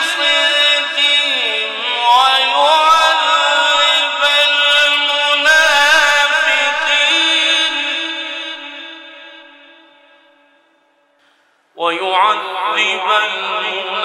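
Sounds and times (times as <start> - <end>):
man reciting melodically: 0.0 - 10.2, 11.7 - 14.0.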